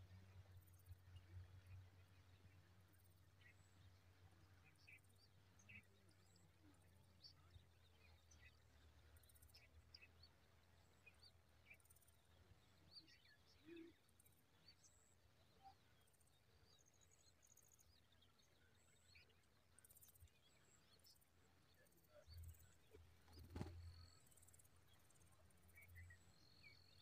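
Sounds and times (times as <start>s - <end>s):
faint bird chirps: 0.0s - 27.0s.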